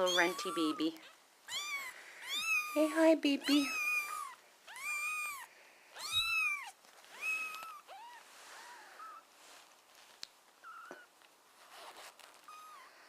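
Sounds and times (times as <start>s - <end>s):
newborn kittens mewing: 0.0s - 9.3s, 10.6s - 11.2s, 12.4s - 13.0s.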